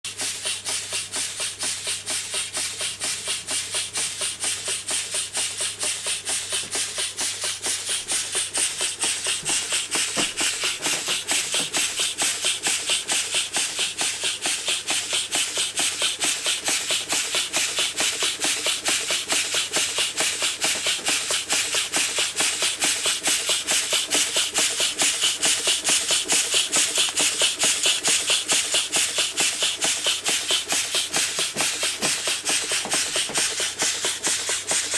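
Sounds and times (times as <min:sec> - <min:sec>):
toy steam engine chuffing: 0:00.1 - 0:34.9.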